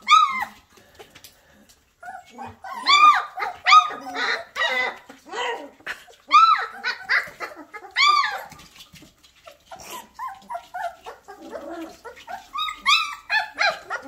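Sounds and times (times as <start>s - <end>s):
puppy yelps: 0.0s - 0.6s, 2.0s - 8.8s, 9.5s - 14.0s
puppies barking and whimpering: 0.0s - 1.2s, 1.8s - 14.0s.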